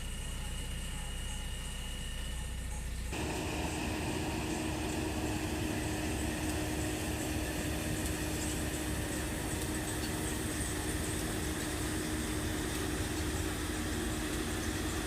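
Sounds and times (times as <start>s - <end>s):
harvesting machine engine drone: 0.0s - 15.0s.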